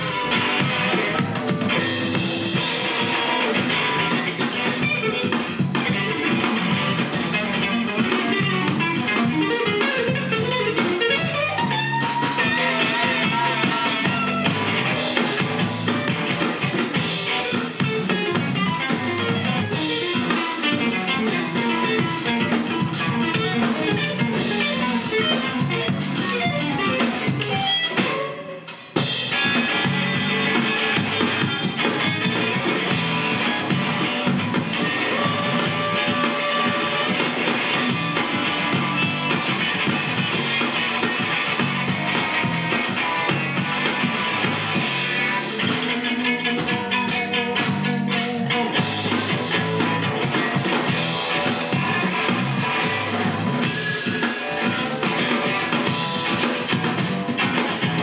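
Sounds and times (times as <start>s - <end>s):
drum kit: 0.0s - 58.0s
electric bass: 0.0s - 58.0s
electric guitar: 0.0s - 58.0s.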